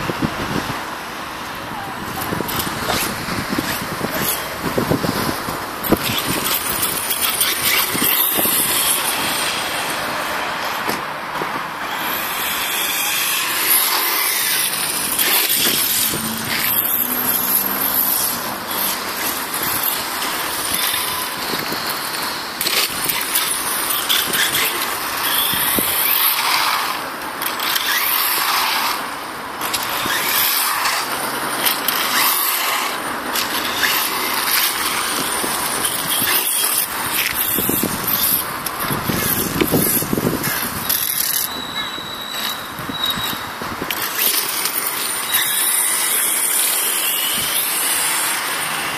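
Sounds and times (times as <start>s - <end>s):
rc truck motor and tyres: 0.0s - 48.9s.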